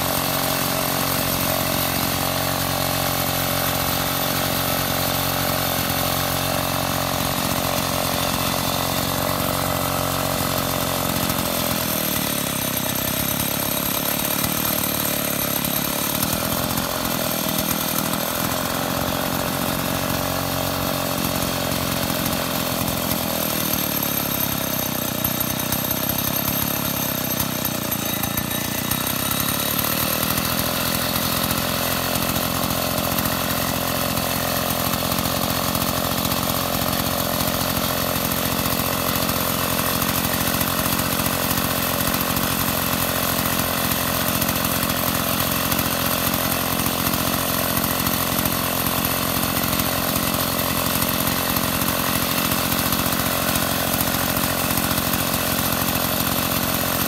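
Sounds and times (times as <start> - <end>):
chainsaw idling: 0.0 - 57.0.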